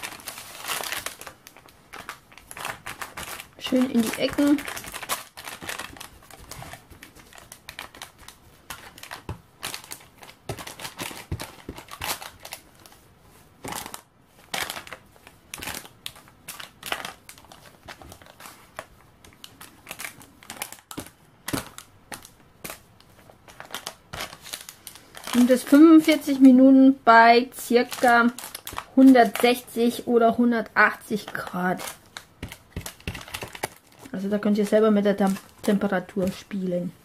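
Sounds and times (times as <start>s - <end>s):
baking paper crinkling: 0.0s - 37.0s.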